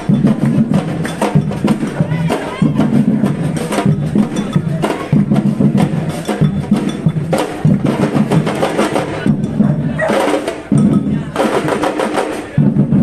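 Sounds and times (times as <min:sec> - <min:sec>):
wood block strikes: 0:00.0 - 0:12.3
drums: 0:00.0 - 0:13.0.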